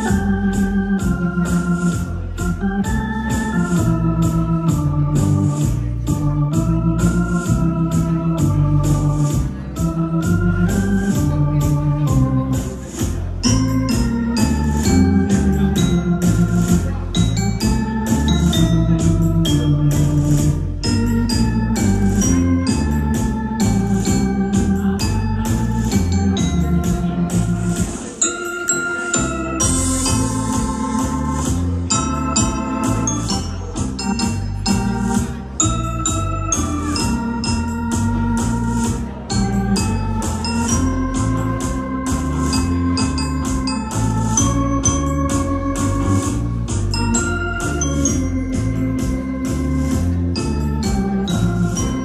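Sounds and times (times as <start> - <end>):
electronic keyboard tango: 0.0 - 52.0
keyboard rhythm beat: 0.0 - 52.0.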